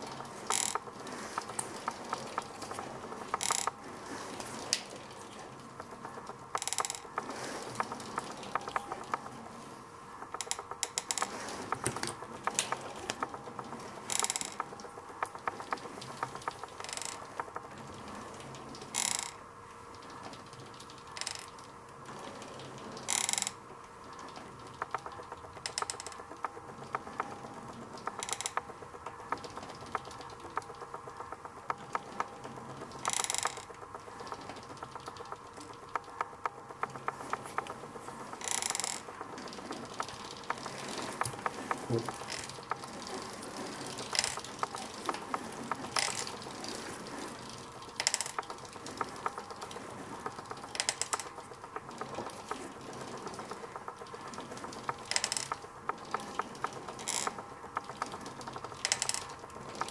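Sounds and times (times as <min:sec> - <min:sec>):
bicycle crank scraping: 0:00.0 - 0:59.9
bicycle crank ticking: 0:00.0 - 0:59.9.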